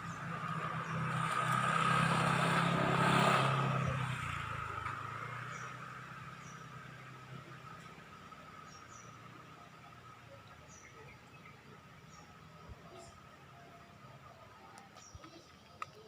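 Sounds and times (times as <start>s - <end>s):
vehicle engine passing by: 0.0s - 15.1s.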